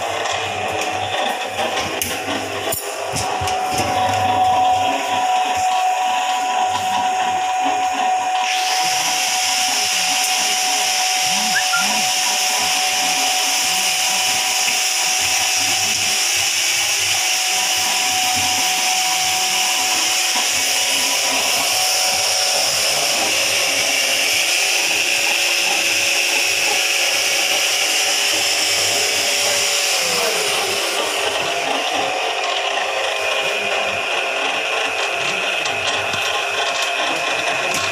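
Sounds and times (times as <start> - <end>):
concrete mixer whirring: 0.0 - 37.9.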